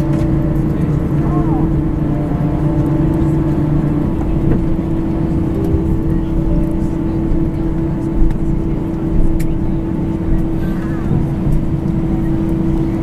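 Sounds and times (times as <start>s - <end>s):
jet engines humming in cabin: 0.0s - 13.0s.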